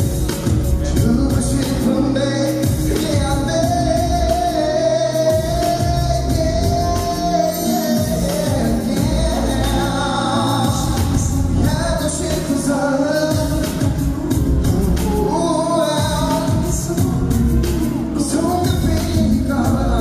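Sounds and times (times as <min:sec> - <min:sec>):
loud backing music with heavy bass: 0:00.0 - 0:20.0
person singing: 0:00.0 - 0:20.0.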